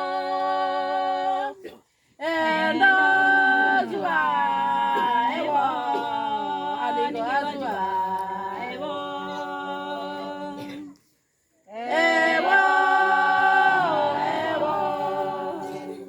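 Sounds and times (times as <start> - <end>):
women singing a cappella: 0.0 - 11.0, 11.7 - 16.0.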